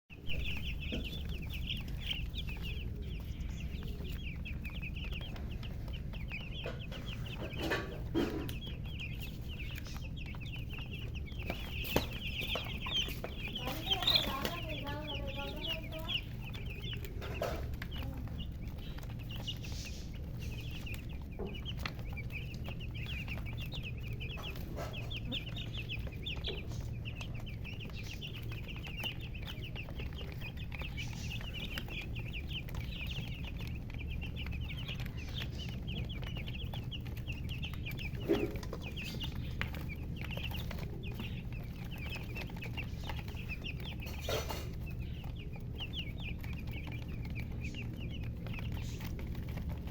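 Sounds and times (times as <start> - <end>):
chicken calls: 0.1 - 49.9
chicks peeping: 0.1 - 49.9
steady low hum: 0.1 - 49.9.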